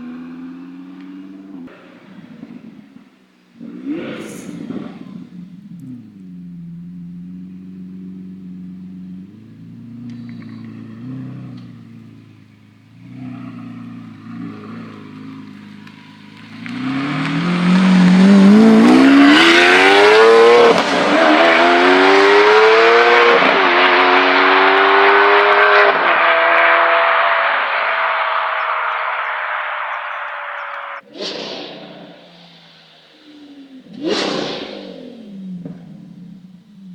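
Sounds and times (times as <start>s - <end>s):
sports car engine accelerating: 0.0s - 36.9s.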